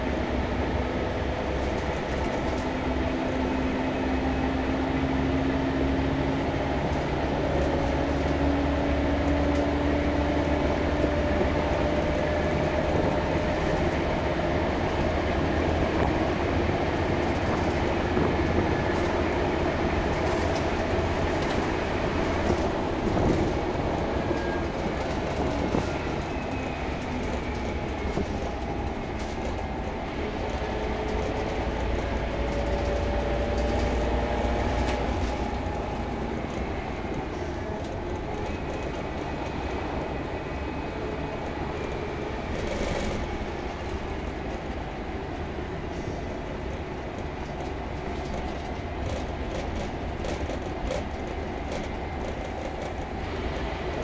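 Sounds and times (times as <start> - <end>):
bus diesel engine drone: 0.0 - 54.0
road noise: 0.0 - 54.0.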